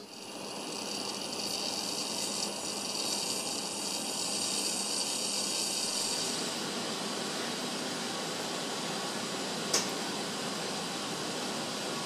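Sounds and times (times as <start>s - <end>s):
gas burner flame hissing: 0.0s - 12.0s.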